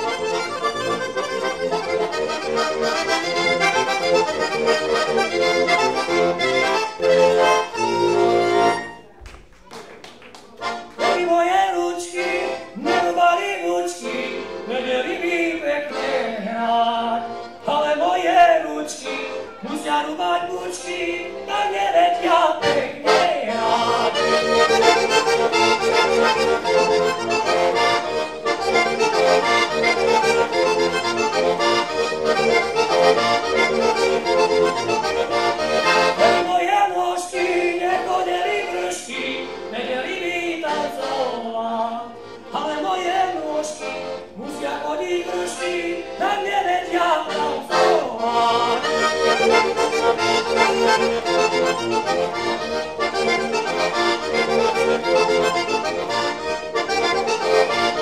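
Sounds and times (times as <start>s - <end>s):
button accordion folk tune: 0.0s - 9.1s, 10.4s - 58.0s.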